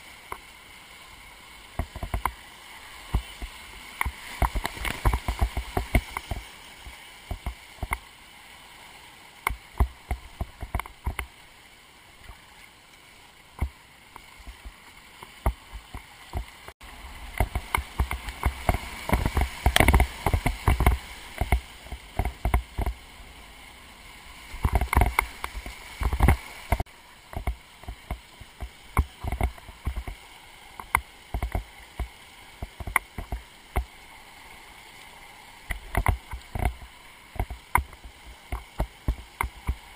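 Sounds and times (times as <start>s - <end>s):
water splashing against boat: 0.0s - 39.9s
whitewater rushing: 0.0s - 39.9s.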